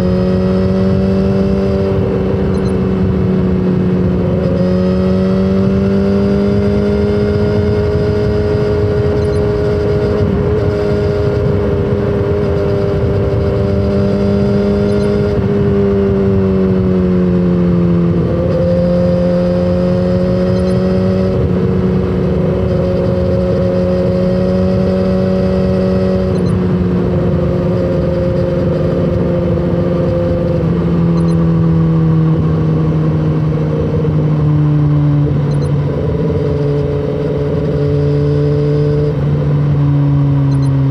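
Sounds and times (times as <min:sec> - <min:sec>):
wind and road rush: 0:00.0 - 0:40.9.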